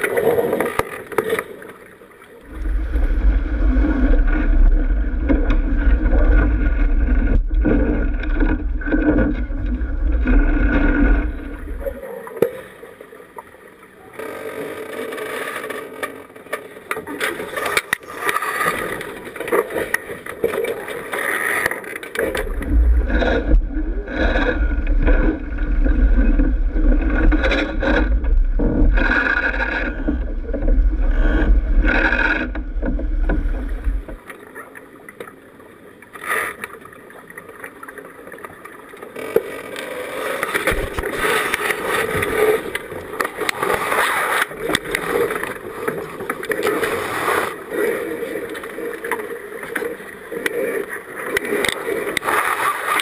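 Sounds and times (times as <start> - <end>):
water rushing along hull: 0.0 - 53.0.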